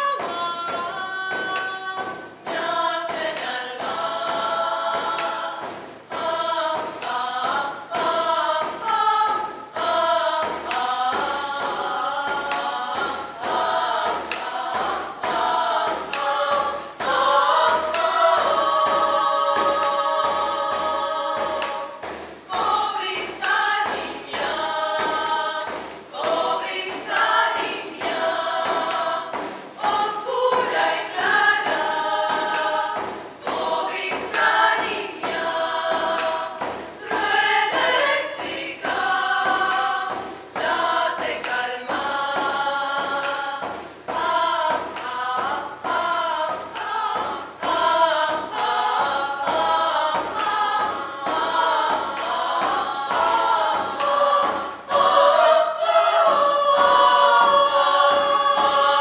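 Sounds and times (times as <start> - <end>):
hand drum beat: 0.0 - 59.0
women's choir singing: 0.0 - 59.0.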